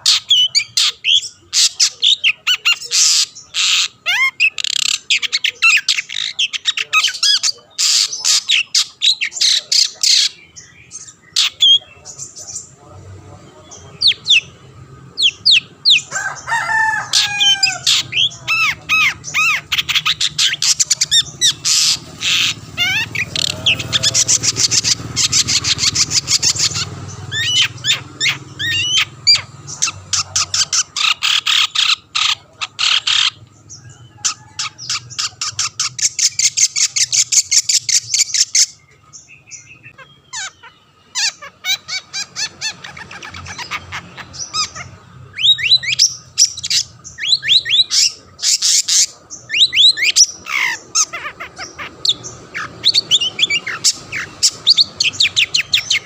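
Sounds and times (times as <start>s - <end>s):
shrike singing: 0.0s - 56.0s.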